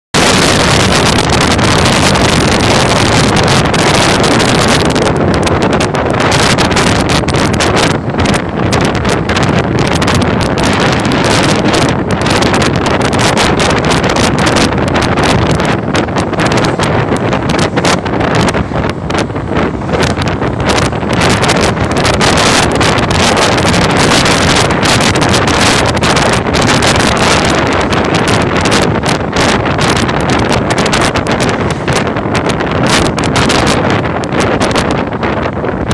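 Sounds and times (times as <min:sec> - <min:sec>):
wind buffeting microphone: 0:00.1 - 0:35.9.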